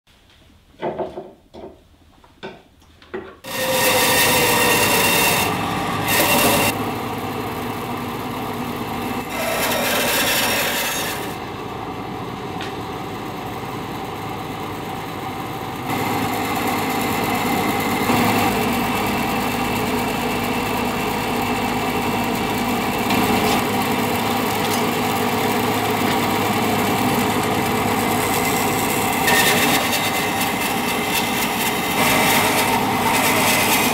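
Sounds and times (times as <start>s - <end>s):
band saw cutting wood: 3.4s - 33.9s.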